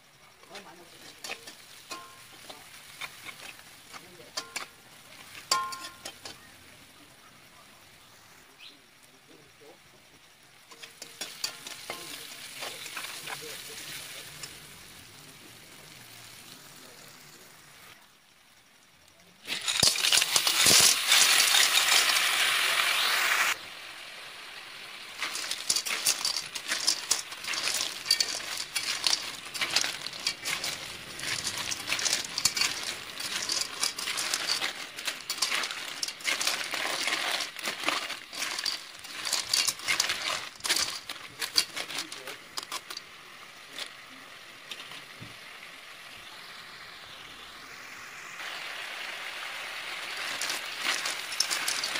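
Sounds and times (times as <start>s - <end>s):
snail shells rattling in a wok: 0.0s - 7.0s, 10.3s - 17.6s, 19.4s - 46.6s, 48.4s - 51.9s
loud sizzle: 0.0s - 8.9s, 10.4s - 51.9s
onions frying in a wok: 0.0s - 51.9s.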